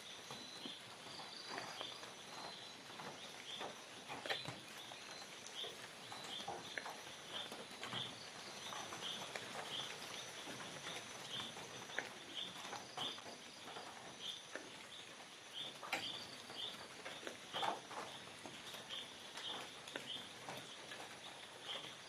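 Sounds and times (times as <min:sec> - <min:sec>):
faint ticks and rustles: 0:00.0 - 0:22.0.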